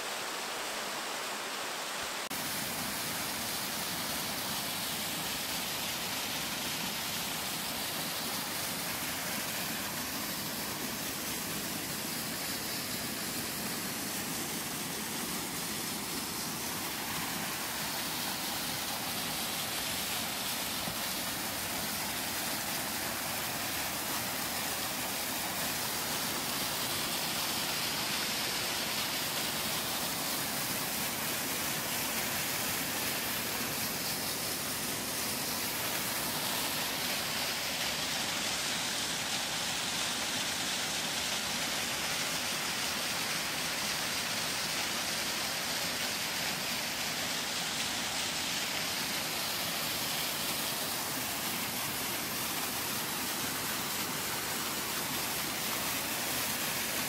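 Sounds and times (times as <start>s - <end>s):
stream and waterfall rushing: 0.0s - 57.0s.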